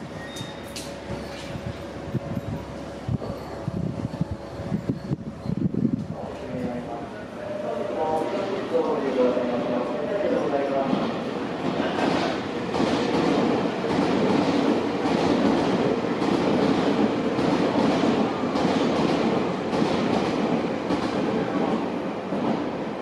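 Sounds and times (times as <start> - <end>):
train wheels on rails: 0.0 - 6.9, 8.0 - 23.0.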